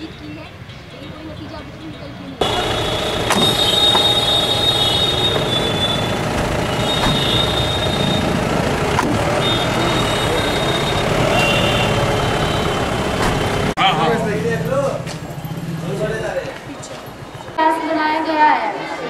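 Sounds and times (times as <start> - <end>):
street and vehicle noise: 0.0 - 19.0.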